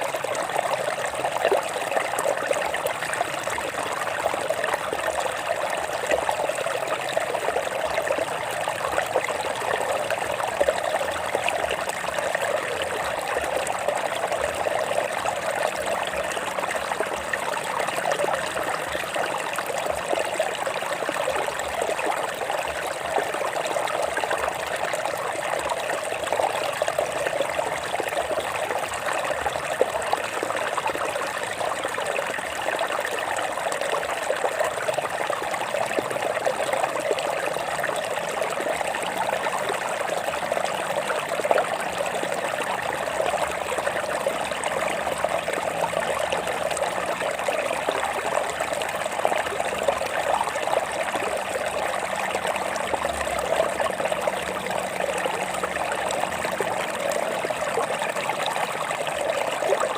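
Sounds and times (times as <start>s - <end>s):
stream water over rocks: 0.0s - 59.9s.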